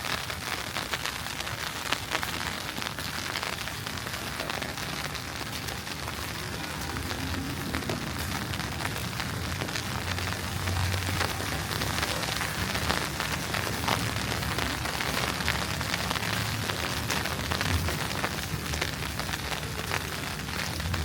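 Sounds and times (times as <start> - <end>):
wet snow pattering: 0.0 - 21.0.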